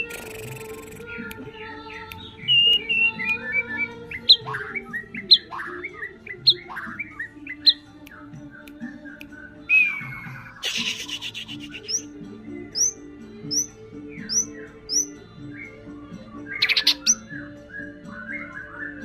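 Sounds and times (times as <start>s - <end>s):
bird song with whistled phrases: 0.0s - 19.0s.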